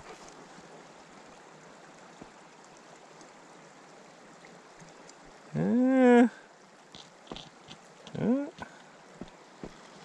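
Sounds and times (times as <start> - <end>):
flowing creek water: 0.0 - 10.0.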